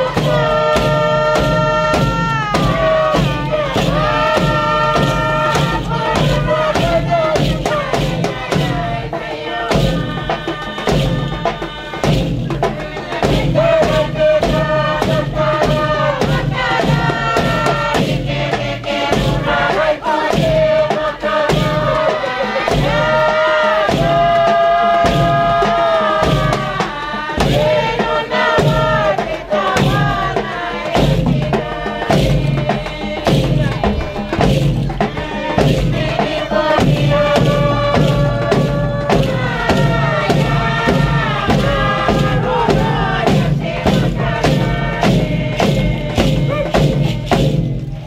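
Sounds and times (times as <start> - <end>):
group singing: 0.0 - 48.0
steady drum beat: 0.0 - 48.0.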